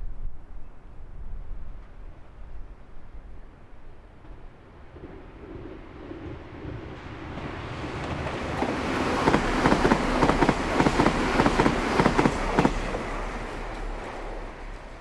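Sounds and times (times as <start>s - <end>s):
train rumbling past: 1.2s - 15.0s.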